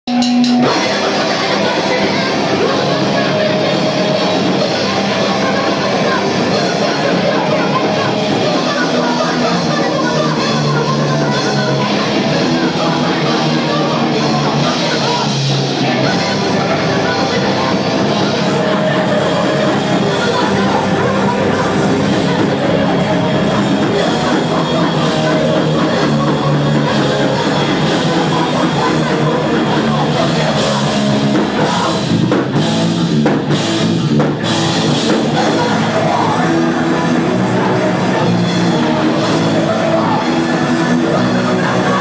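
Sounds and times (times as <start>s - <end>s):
distorted electric guitars: 0.0s - 42.0s
drum kit: 0.0s - 42.0s
person singing into microphone: 0.5s - 32.7s, 34.0s - 42.0s.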